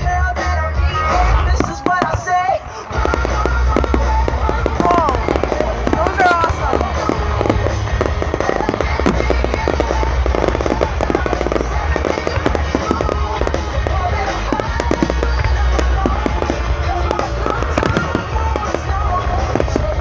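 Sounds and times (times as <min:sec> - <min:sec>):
fireworks bangs and crackles: 0:00.0 - 0:20.0
pop music: 0:00.0 - 0:20.0.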